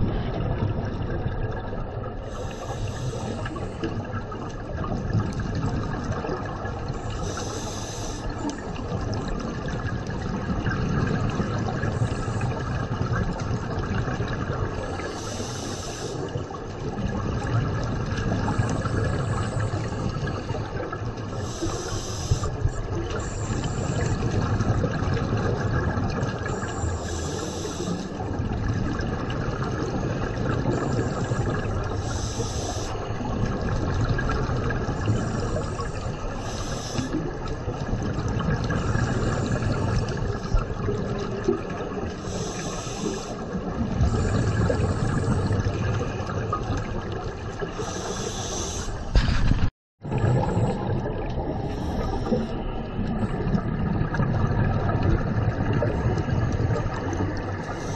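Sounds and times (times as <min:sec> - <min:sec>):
exhaled bubbles hissing: 0:00.0 - 0:49.4, 0:50.0 - 0:57.9
low rumble of water: 0:00.0 - 0:57.9.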